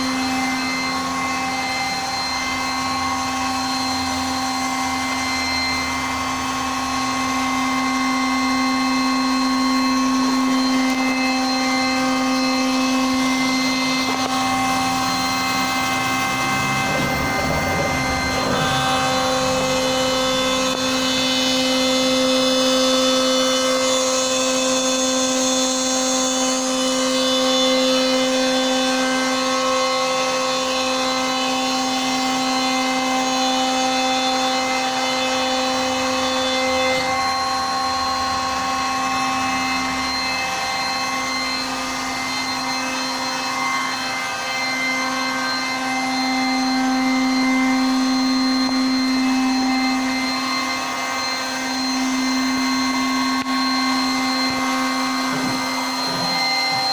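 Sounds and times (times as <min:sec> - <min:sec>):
router spindle whine cutting wood: 0:00.0 - 0:56.9.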